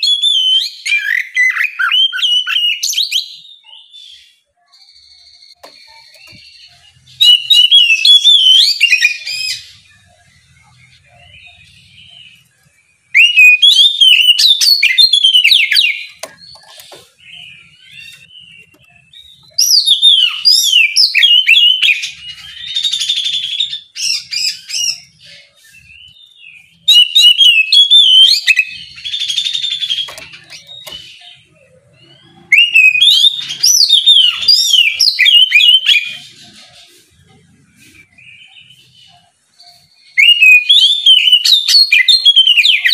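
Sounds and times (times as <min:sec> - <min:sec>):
songbird whistling song: 0:00.0 - 0:42.9.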